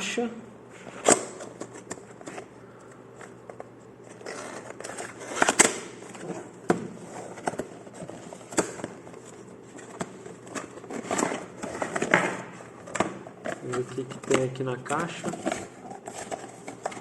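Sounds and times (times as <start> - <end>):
cardboard packaging rustling: 0.8 - 17.0.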